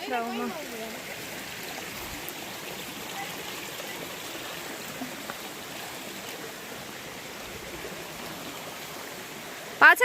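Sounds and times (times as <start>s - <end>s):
stream flowing over rocks: 0.0s - 10.0s.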